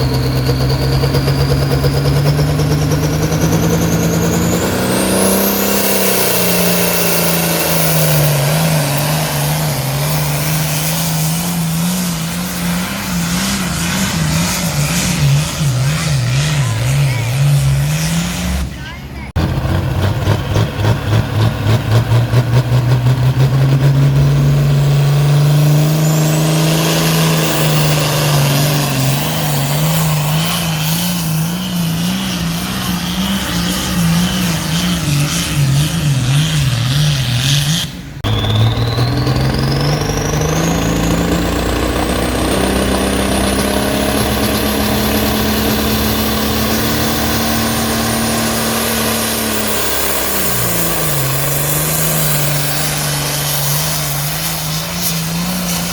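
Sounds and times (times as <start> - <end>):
high whine rising: 0.0 - 35.3, 38.2 - 55.9
engine running hard under load: 0.0 - 55.9.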